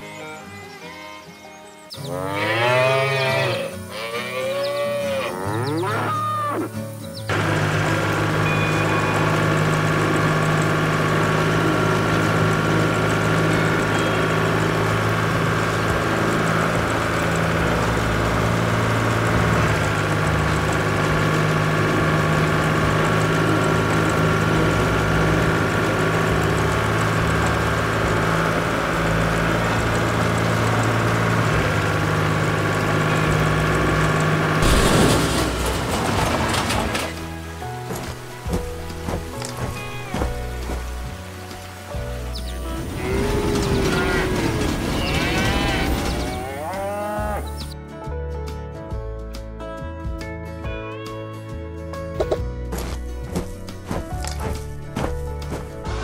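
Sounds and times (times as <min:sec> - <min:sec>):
tractor engine running: 0:01.6 - 0:47.8, 0:52.1 - 0:56.0.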